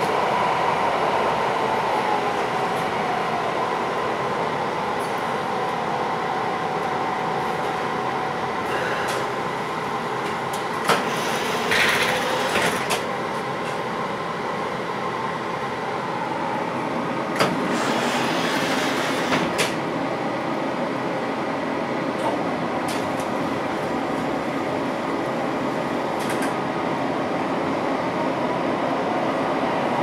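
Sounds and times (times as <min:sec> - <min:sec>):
light-rail car rolling noise: 0:00.0 - 0:30.0.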